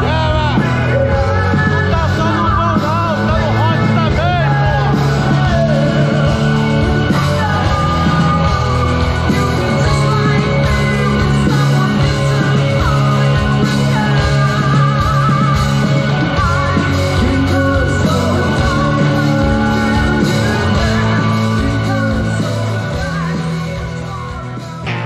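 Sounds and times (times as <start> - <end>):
live rock band playing: 0.0 - 25.0
person singing: 0.0 - 25.0.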